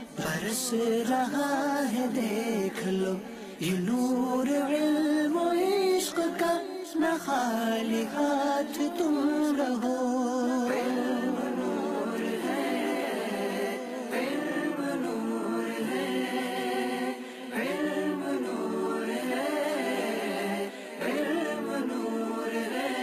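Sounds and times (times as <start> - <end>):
a cappella singing voices: 0.0 - 23.0.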